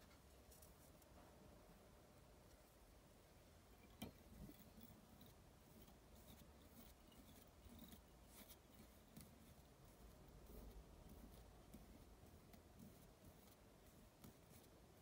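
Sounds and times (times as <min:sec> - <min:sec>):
faint ticks and rustles: 0:00.0 - 0:01.4, 0:03.6 - 0:15.0.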